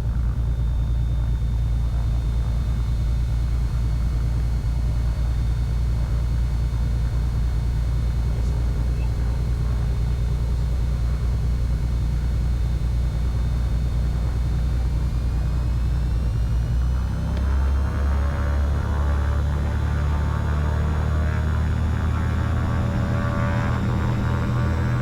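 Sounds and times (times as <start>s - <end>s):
faint rising whine: 0.0s - 25.0s
twin piston engines droning: 0.0s - 25.0s.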